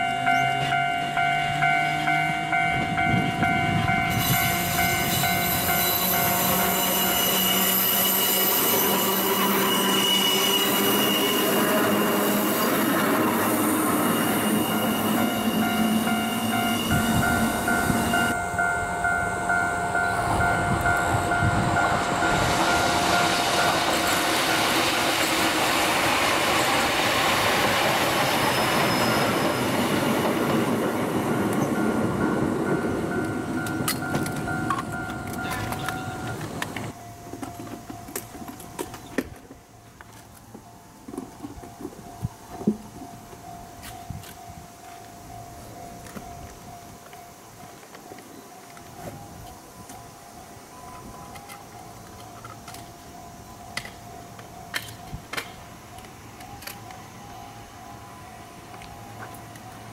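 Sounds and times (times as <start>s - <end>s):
train wheels squealing on rails: 0.0s - 39.5s, 40.8s - 59.9s.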